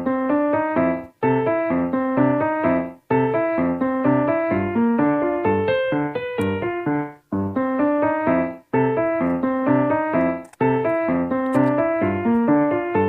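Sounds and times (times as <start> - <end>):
quick keyboard melody: 0.0 - 13.0.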